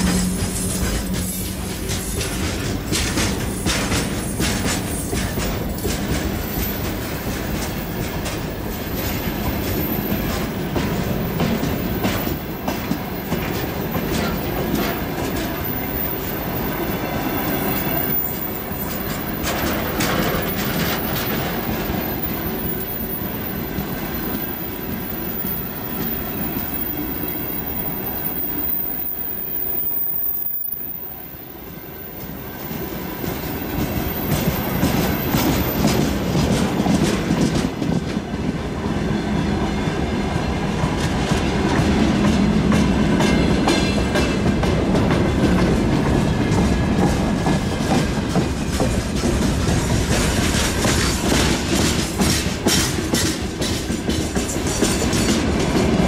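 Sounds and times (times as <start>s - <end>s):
train wheels clattering over rail joints: 0.0s - 24.6s, 33.1s - 38.8s, 40.3s - 56.0s.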